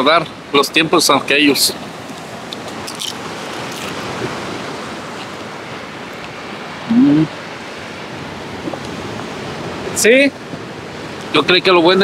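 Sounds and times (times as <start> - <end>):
ocean waves on rocks: 0.0 - 12.0.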